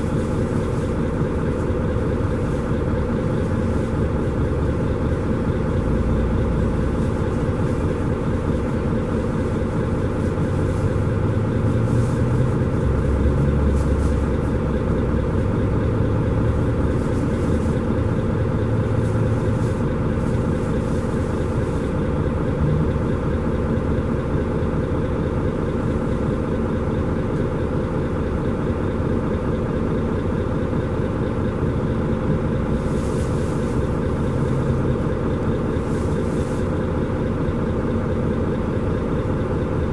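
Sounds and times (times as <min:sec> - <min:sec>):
bus engine running at low revs: 0:00.0 - 0:39.9
constant mechanical drone: 0:00.0 - 0:39.9.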